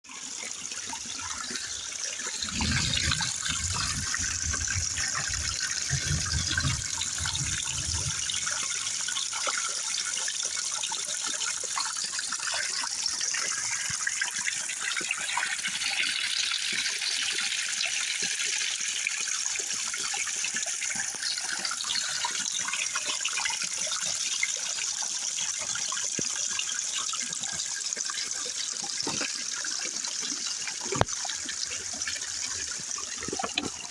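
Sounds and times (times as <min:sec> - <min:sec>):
water running and pouring: 0:00.0 - 0:33.9.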